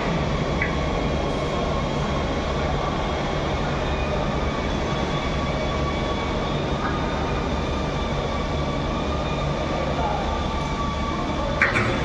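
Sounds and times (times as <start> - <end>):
constant rushing noise: 0.0 - 12.0
low machinery hum: 0.0 - 12.0.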